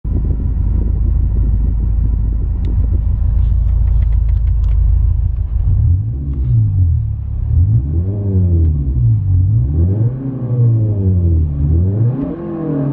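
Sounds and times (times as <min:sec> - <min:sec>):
engine rumbling: 0:00.0 - 0:12.9.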